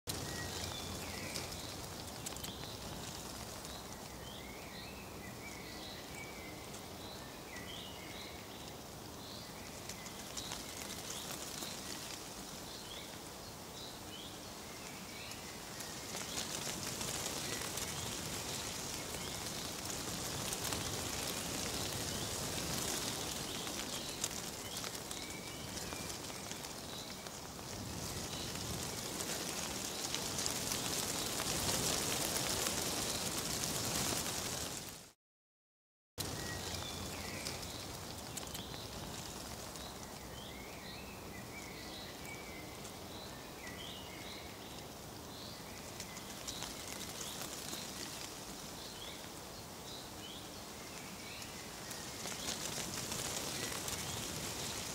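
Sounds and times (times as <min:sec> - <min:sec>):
wind-blown leaves rustling: 0:00.0 - 0:35.2, 0:36.2 - 0:54.9
small birds chirping: 0:00.1 - 0:34.9, 0:36.2 - 0:54.9.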